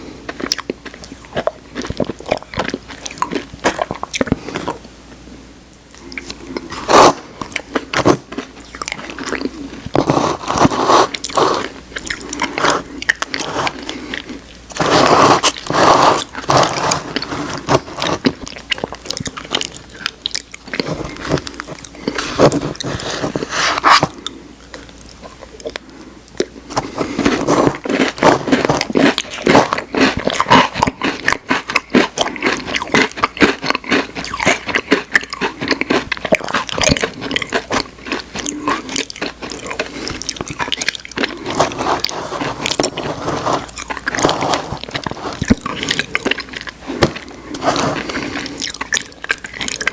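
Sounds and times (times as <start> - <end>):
close chewing and crunching: 0.0 - 4.9, 5.9 - 49.9.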